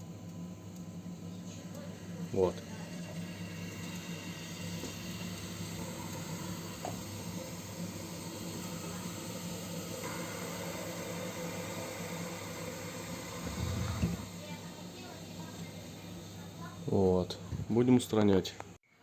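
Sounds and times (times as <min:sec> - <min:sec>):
boiler low hum: 0:00.0 - 0:18.0
boiler hissing: 0:00.0 - 0:18.5.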